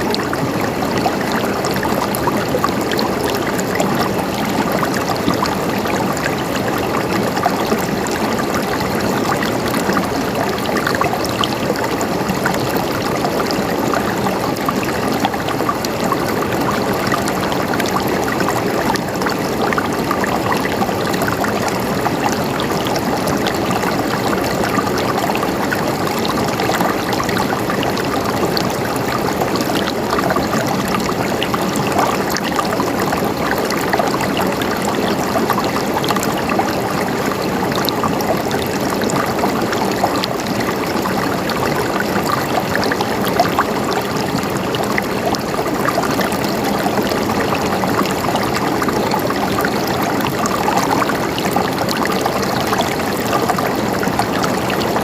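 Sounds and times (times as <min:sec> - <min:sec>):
water gurgling and trickling: 0:00.0 - 0:55.0.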